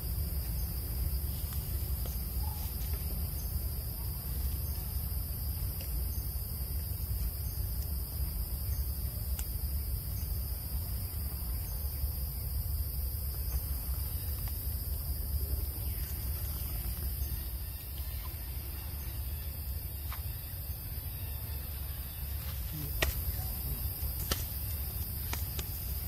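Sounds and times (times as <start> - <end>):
insect chorus drone: 0.0 - 26.0
low steady rumble: 0.0 - 26.0.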